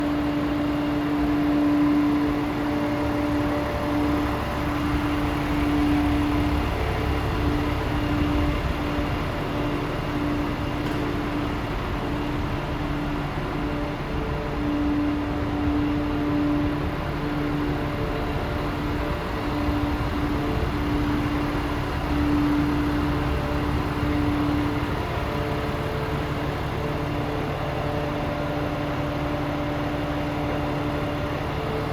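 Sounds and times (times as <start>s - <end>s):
truck diesel engine idling: 0.0s - 31.9s.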